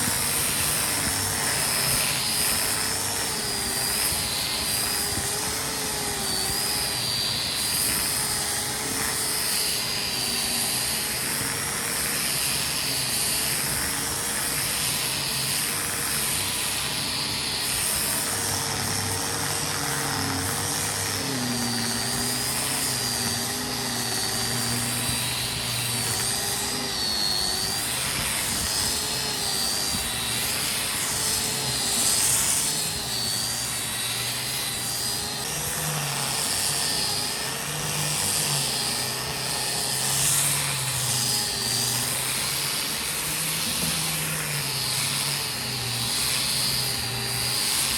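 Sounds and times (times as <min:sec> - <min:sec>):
motor running: 0:00.0 - 0:47.9.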